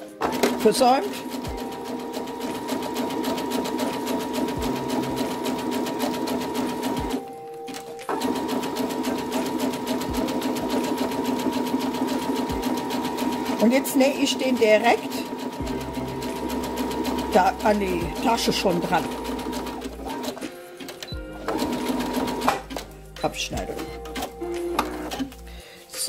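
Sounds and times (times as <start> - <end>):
sewing machine stitching: 0.0 - 7.2, 8.1 - 22.8.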